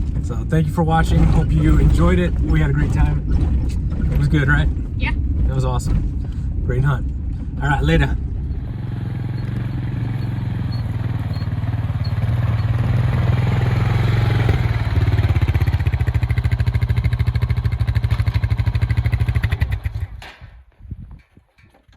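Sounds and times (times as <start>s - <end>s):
vehicle engine and road hum: 0.0s - 21.9s.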